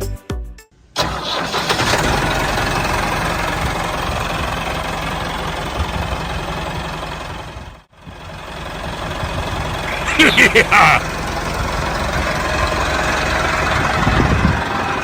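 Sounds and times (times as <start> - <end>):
engine idling: 1.0 - 15.0.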